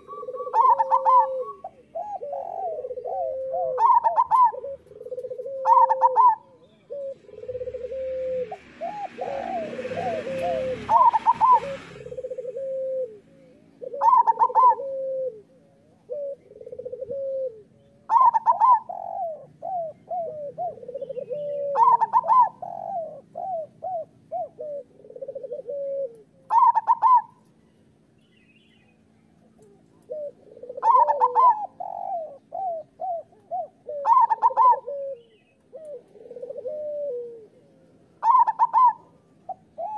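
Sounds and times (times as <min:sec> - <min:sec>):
doves cooing: 0:00.0 - 0:27.6, 0:29.4 - 0:39.9.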